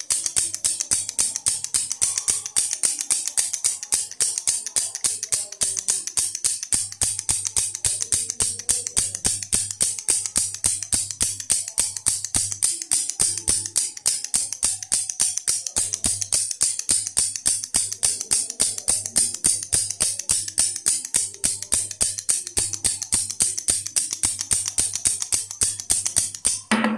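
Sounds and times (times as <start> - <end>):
baby rattle shaken: 0.0 - 26.7.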